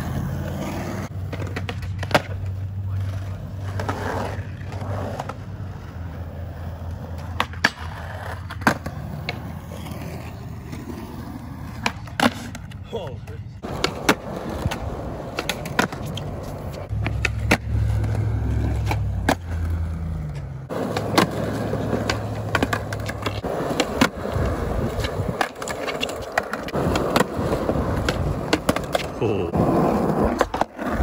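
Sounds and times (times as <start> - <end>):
skateboard clacks: 0.0 - 5.4, 6.9 - 11.1, 13.6 - 31.0
skateboard wheels rolling on concrete: 0.0 - 31.0.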